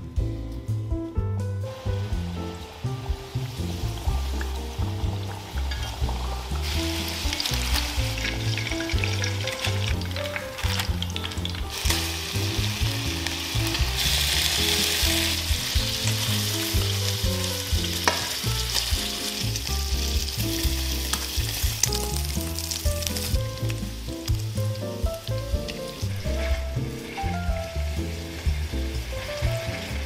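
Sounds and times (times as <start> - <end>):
meat sizzling in a frying pan: 1.7 - 30.0.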